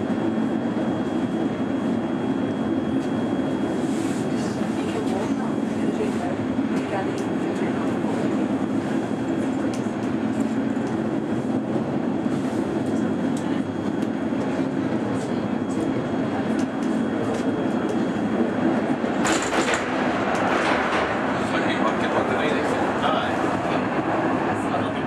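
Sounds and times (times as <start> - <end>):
funicular car rumbling on rails: 3.8 - 25.0.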